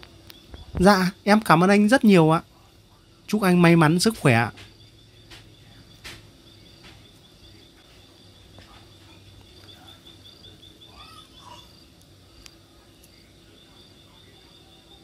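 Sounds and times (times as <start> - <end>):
faint steady insect tone: 0.0 - 15.0
insect chirping: 0.0 - 15.0.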